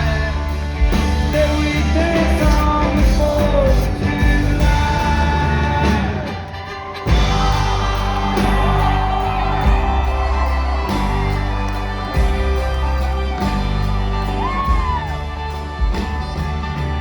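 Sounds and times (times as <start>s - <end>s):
country band playing live: 0.0s - 17.0s
crowd whooping and shouting: 0.0s - 17.0s.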